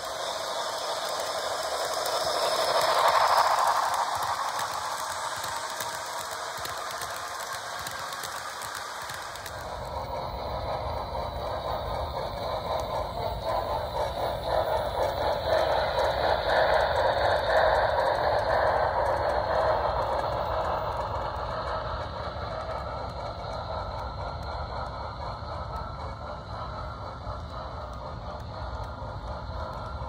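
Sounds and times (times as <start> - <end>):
model train clattering on track: 0.0 - 30.0.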